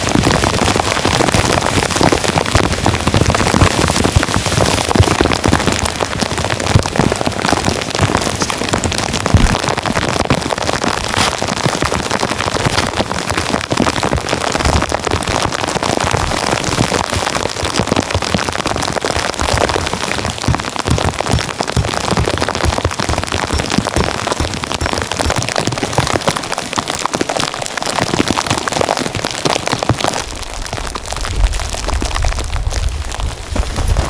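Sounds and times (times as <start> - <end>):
rain pattering on a surface: 0.0 - 34.0.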